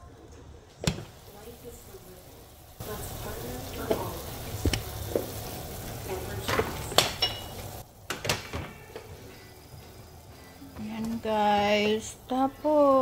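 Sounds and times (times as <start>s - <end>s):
soup boiling and bubbling: 0.4s - 13.0s.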